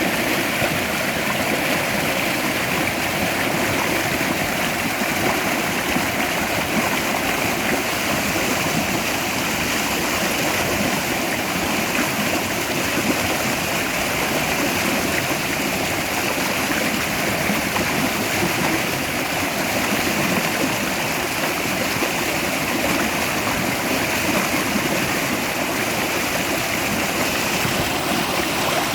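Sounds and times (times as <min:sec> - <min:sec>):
stream rushing over rocks: 0:00.0 - 0:28.9.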